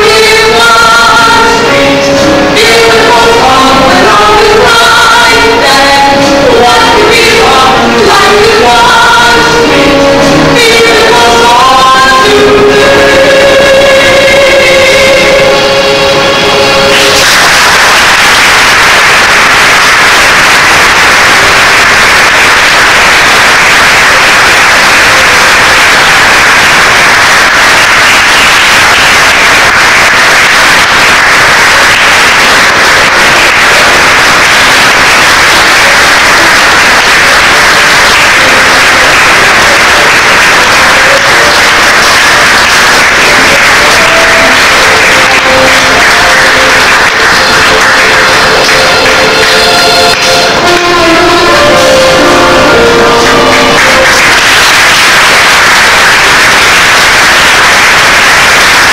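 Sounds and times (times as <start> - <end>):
theatre audience applauding: 0.0 - 58.9.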